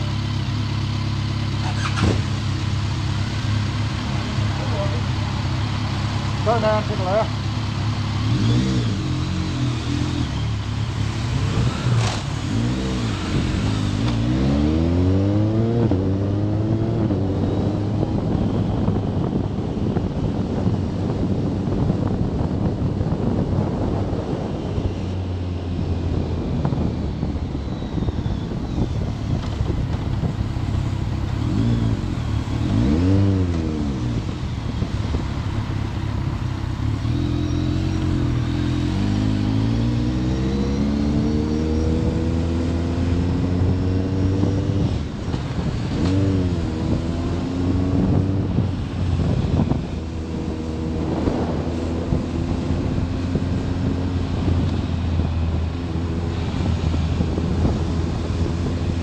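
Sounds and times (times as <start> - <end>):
motorcycle engine revving: 0.0 - 19.0, 28.7 - 59.0
wind noise on microphone: 8.4 - 59.0.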